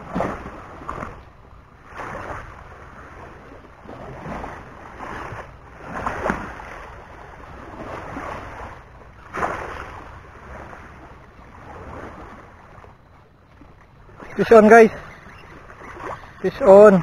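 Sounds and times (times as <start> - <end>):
wind rumble on microphone: 0.0 - 14.2
small waves splashing: 0.0 - 17.0.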